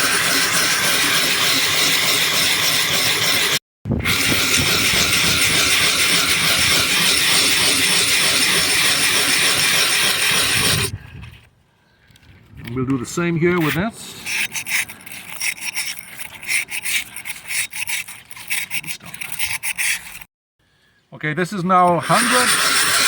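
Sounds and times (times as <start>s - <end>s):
glass rasping on sandpaper: 0.0s - 10.9s, 13.5s - 20.3s, 21.8s - 23.0s.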